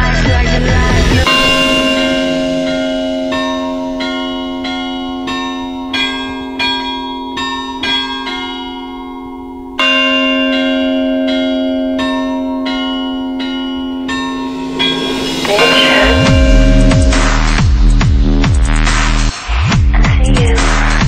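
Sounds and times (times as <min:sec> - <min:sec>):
church bells pealing: 0:01.0 - 0:19.2.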